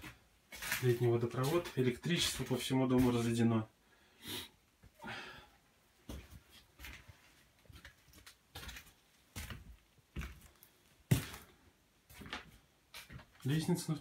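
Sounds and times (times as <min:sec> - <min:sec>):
footsteps indoors: 0:00.0 - 0:03.5, 0:06.0 - 0:13.7.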